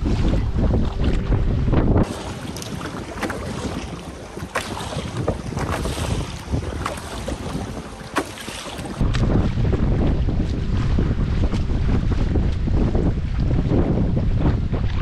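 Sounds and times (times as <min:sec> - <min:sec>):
water lapping and splashing: 0:00.0 - 0:15.0
wind buffeting microphone: 0:00.0 - 0:15.0.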